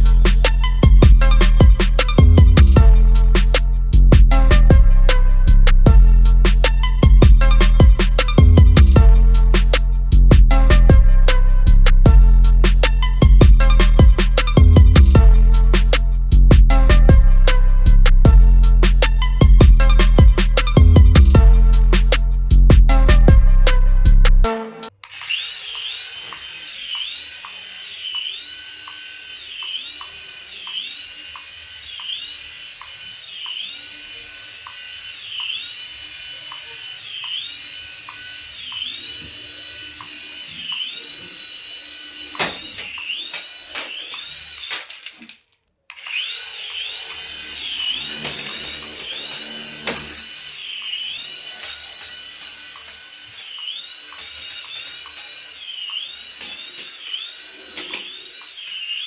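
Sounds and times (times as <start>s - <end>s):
remote-control toy whirring: 0.0s - 4.0s, 4.6s - 22.6s, 24.9s - 59.0s.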